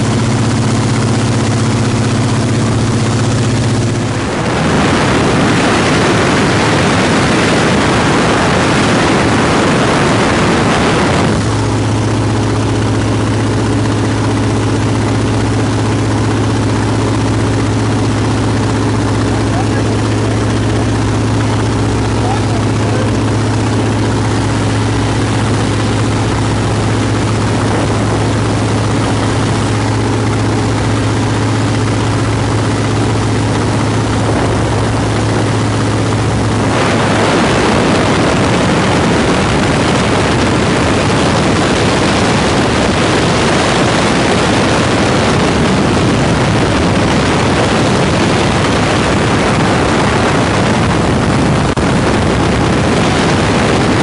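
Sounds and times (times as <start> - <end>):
biplane engine droning: 0.0 - 54.0
loud rushing wind: 0.0 - 54.0.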